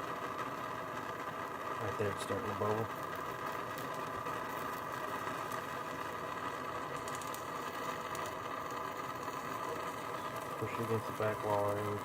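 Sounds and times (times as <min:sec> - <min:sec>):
faint crackles: 0:00.0 - 0:12.0
torch flame hissing: 0:00.0 - 0:12.0.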